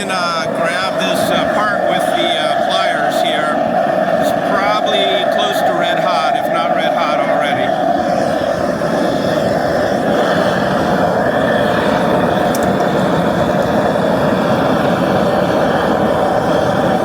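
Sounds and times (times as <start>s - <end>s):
gas forge burner rushing: 0.0s - 17.0s.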